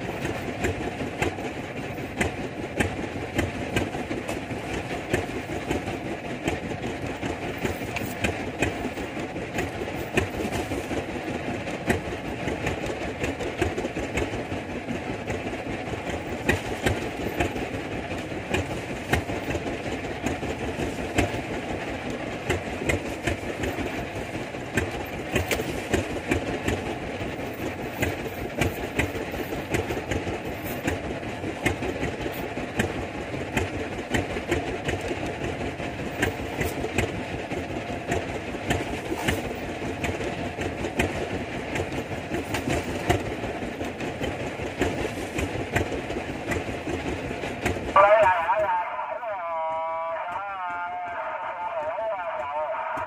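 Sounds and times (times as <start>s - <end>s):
boat engine knocking steadily: 0.0s - 53.0s.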